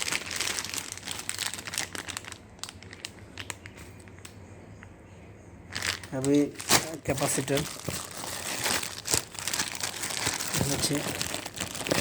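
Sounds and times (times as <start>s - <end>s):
packaging crinkling and rustling: 0.0s - 4.3s, 5.7s - 12.0s.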